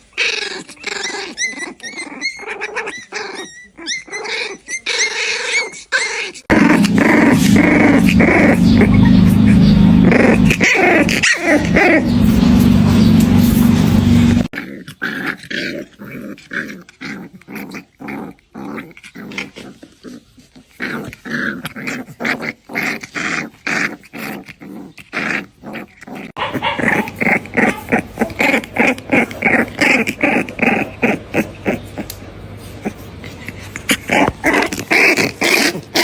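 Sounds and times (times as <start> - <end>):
puppy growling: 0.0 - 36.0.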